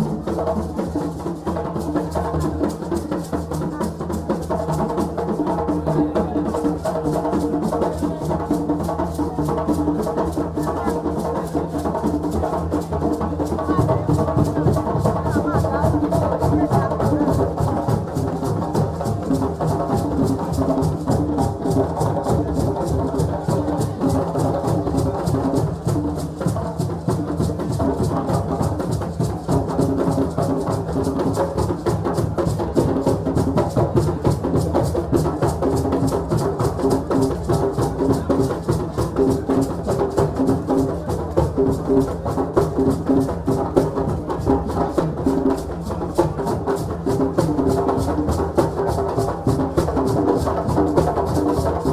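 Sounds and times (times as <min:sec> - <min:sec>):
drums playing fast rhythm: 0:00.0 - 0:51.9.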